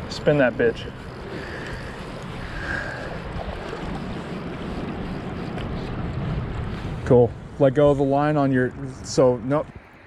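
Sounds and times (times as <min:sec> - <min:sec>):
flowing river water: 0:00.0 - 0:10.0
wind noise on microphone: 0:01.0 - 0:10.0.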